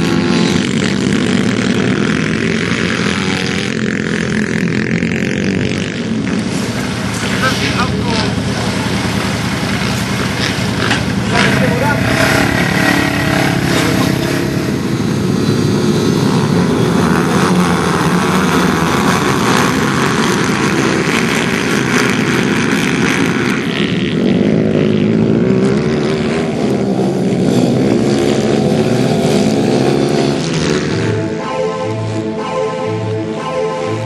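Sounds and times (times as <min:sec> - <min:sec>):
motorbike engine revving: 0:00.0 - 0:34.0.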